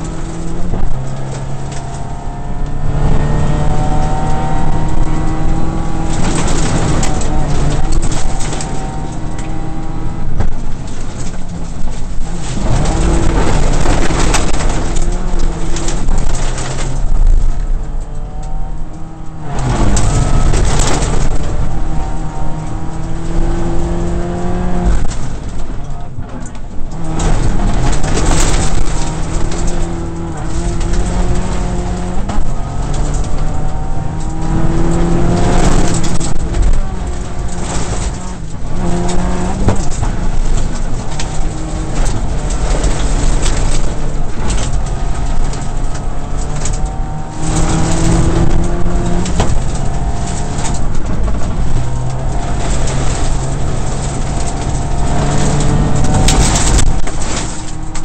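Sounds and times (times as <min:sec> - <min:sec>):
rally car engine revving: 0:00.0 - 0:58.0
tyres on gravel: 0:00.0 - 0:58.0.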